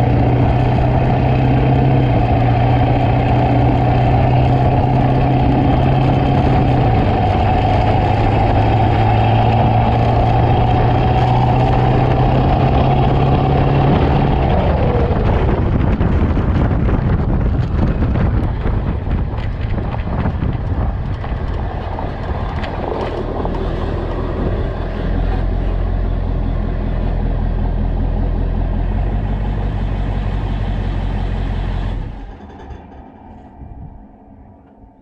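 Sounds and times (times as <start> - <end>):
diesel truck engine drone: 0.0 - 35.0
tyre and wind noise: 0.0 - 35.0.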